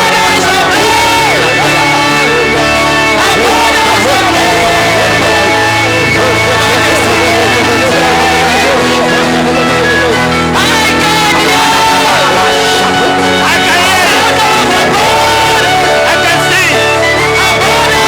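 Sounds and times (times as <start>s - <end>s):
live praise music: 0.0s - 18.0s
voices singing and shouting: 0.0s - 18.0s.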